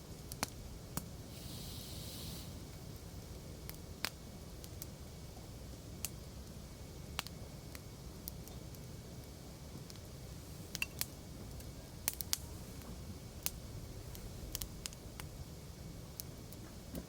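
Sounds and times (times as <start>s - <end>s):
campfire crackling and popping: 0.0s - 1.4s, 2.6s - 17.0s
low rumble of flames: 0.0s - 17.0s.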